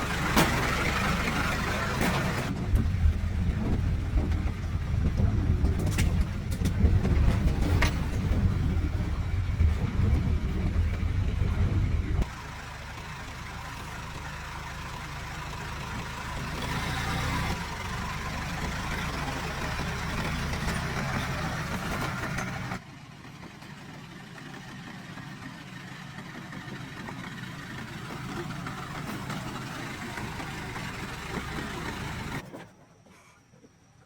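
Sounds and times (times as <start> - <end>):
vehicle engine idling: 0.0 - 32.4.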